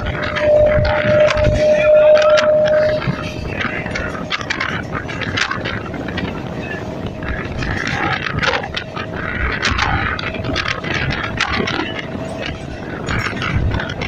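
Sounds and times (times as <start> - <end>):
faint steady whine: 0.0 - 14.0
sharp rattles and clatter: 0.0 - 14.0
train rumble and rush: 0.0 - 14.0.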